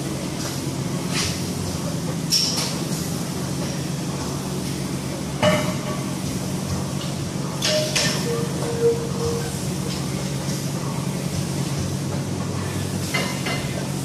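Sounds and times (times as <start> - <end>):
steady gym hum: 0.0 - 14.0.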